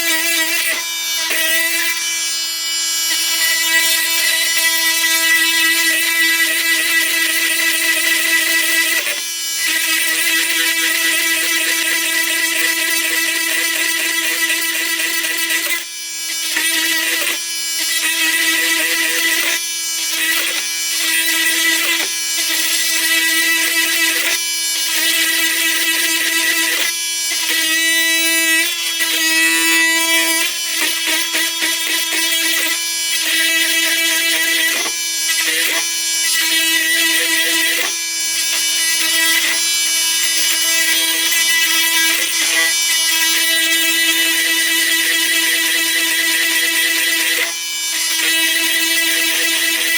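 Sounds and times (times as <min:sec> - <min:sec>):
blade scraping metal: 0:00.0 - 0:49.9
oscillating multi-tool buzzing: 0:00.0 - 0:49.9.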